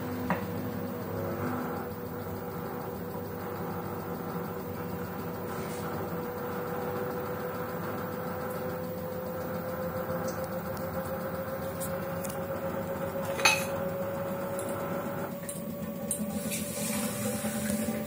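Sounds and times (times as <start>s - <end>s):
washing machine motor whine: 0.0s - 18.0s.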